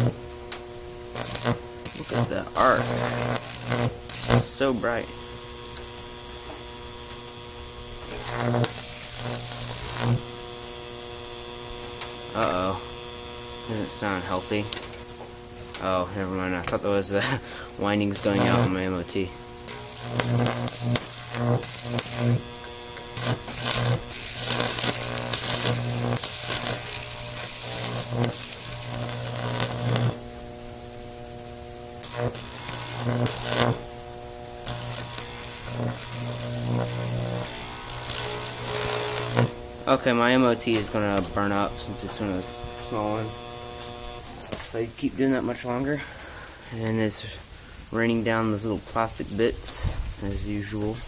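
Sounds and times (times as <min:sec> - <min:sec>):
electric arc buzzing and hissing: 0:00.0 - 0:51.0
microwave transformer humming: 0:00.0 - 0:51.0.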